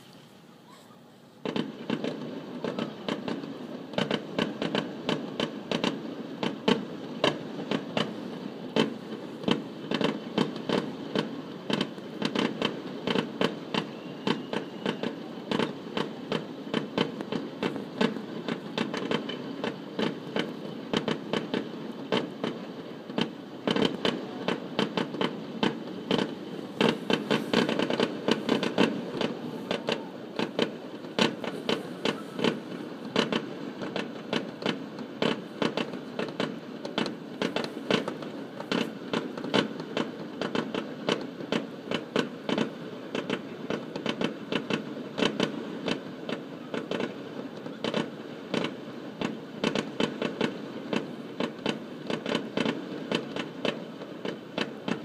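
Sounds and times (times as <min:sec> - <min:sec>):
distant fireworks pops and bangs: 0:01.4 - 0:55.0.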